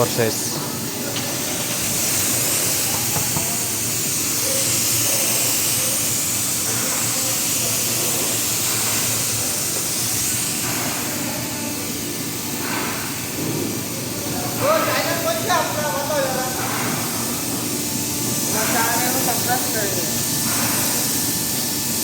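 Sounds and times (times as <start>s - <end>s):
spray gun hissing: 0.0s - 22.0s.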